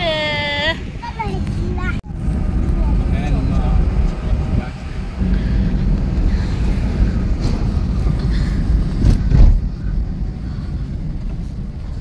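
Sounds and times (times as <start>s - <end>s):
car road noise rumble: 0.0s - 12.0s
wind on microphone: 0.0s - 12.0s.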